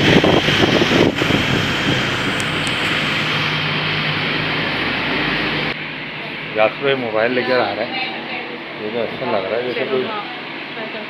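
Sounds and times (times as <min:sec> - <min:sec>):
city street traffic hiss: 0:00.0 - 0:11.0.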